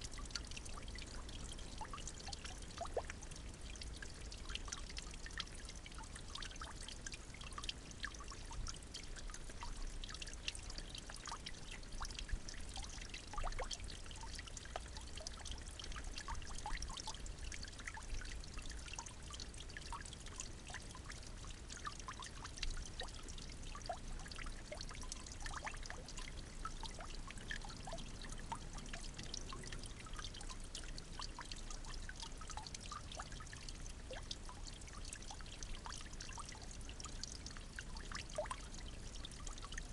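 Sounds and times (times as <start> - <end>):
running water trickling: 0.0 - 39.9
water drips and splashes: 0.0 - 39.9.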